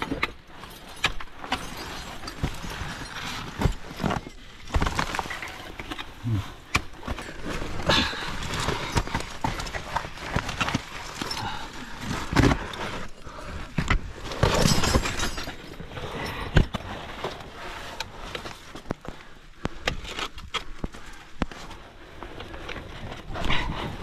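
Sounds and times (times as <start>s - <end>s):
climbing gear clinking on rock: 0.0s - 24.0s.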